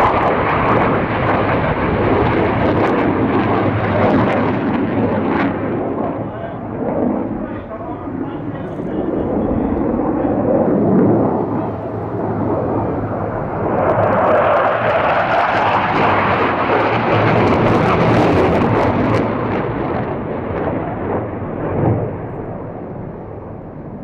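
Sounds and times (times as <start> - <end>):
jet aircraft passing: 0.0 - 24.0.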